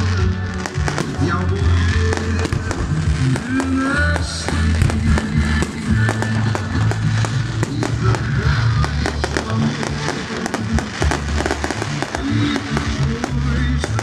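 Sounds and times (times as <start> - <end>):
fireworks bangs and crackles: 0.0 - 14.0
loud music with bass notes: 0.0 - 14.0.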